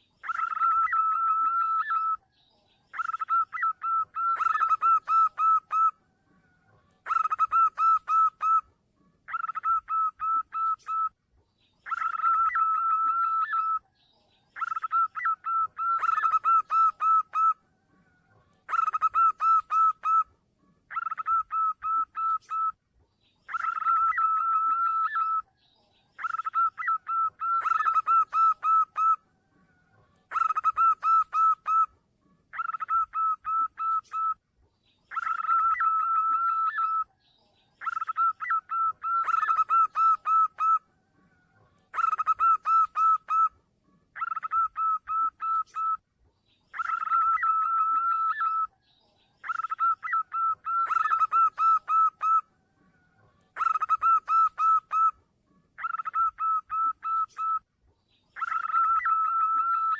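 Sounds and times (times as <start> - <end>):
dove cooing: 0.0 - 2.2, 2.9 - 11.1, 11.8 - 13.8, 14.6 - 22.8, 23.5 - 25.5, 26.2 - 34.4, 35.1 - 37.1, 37.8 - 46.0, 46.7 - 48.8, 49.4 - 57.6, 58.4 - 59.9.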